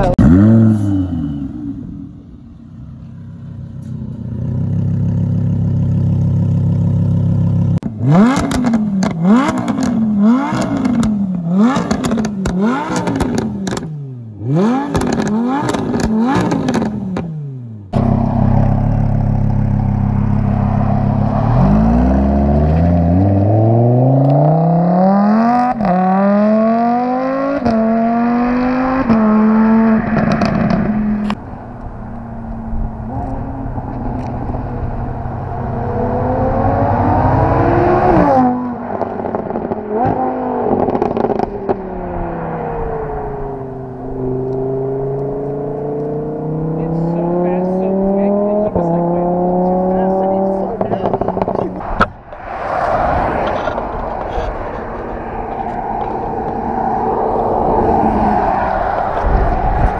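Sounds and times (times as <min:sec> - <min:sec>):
car engine revving: 0:00.0 - 0:03.8, 0:04.4 - 0:59.9
car accelerating through upshifts: 0:07.8 - 0:52.1, 0:52.8 - 0:59.9.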